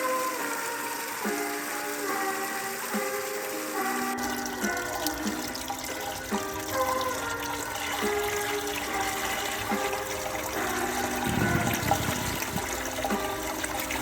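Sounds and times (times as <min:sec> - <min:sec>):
background music with held notes: 0:00.0 - 0:14.0
waterfall rushing: 0:00.0 - 0:14.0.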